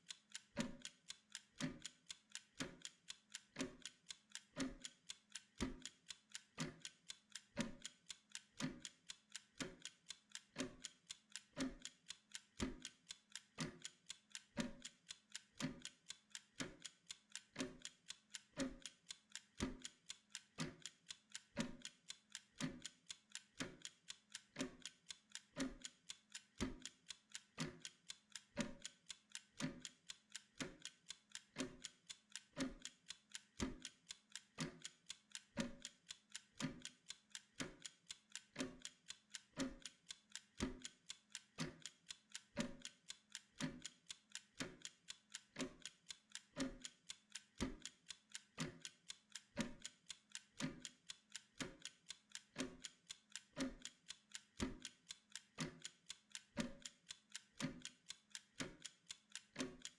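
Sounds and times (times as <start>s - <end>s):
kitchen timer ticking: 0.0s - 59.9s.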